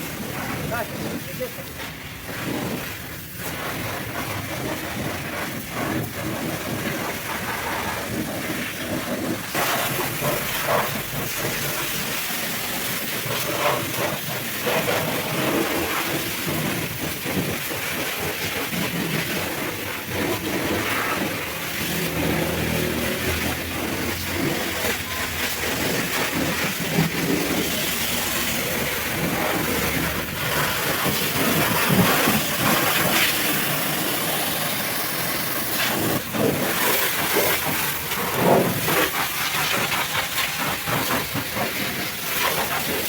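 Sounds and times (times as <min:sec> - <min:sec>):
pressure washer spraying water: 0:00.0 - 0:43.0.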